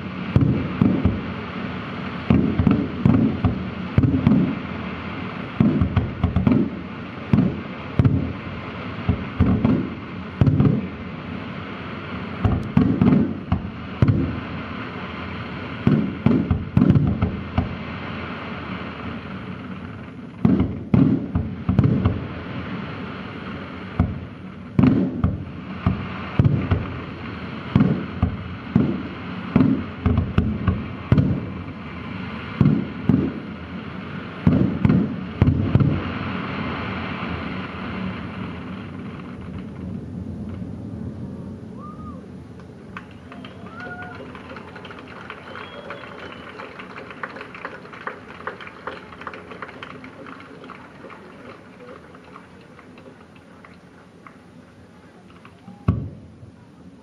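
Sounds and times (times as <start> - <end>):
firework shells bursting: 0.0 - 11.0, 12.0 - 17.9, 18.6 - 36.4, 42.6 - 56.3
steady hiss: 0.0 - 57.0.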